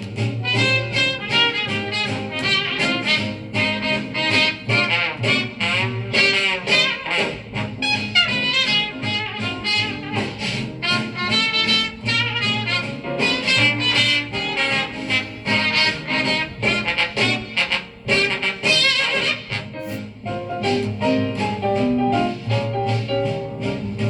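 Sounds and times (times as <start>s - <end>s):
jazz horns over bass line: 0.0s - 24.0s.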